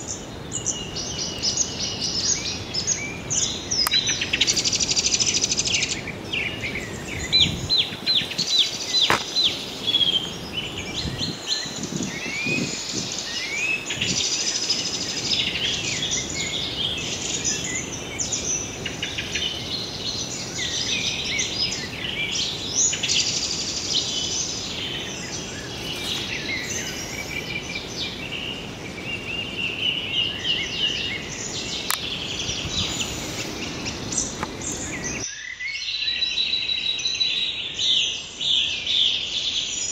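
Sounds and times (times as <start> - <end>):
steady outdoor hum: 0.0 - 35.3
small birds chirping and trilling: 0.0 - 39.9.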